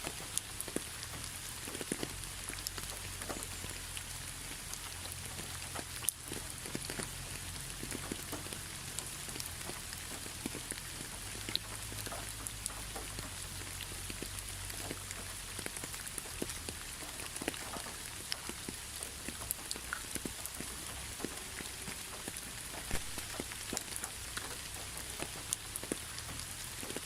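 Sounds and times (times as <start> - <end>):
rain hiss: 0.0 - 27.0
raindrops ticking on a surface: 0.0 - 27.0.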